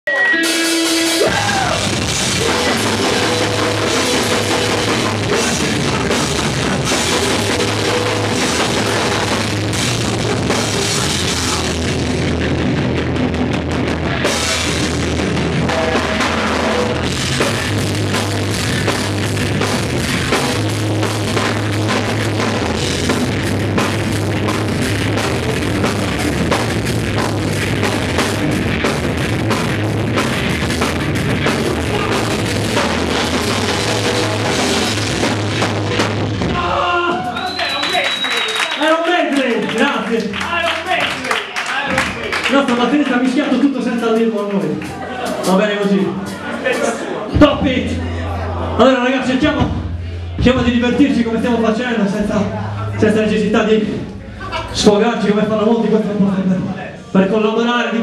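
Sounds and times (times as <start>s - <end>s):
punk band playing loud and fast: 0.1s - 57.4s.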